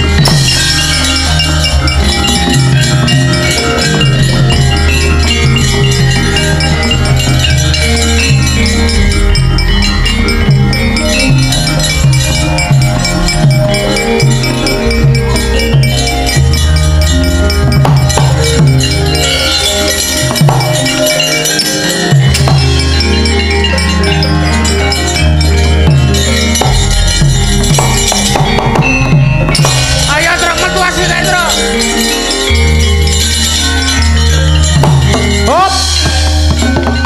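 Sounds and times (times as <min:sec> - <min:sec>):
drum rhythm: 0:00.0 - 0:37.0
gongs: 0:00.0 - 0:37.0
metallophones: 0:00.0 - 0:37.0.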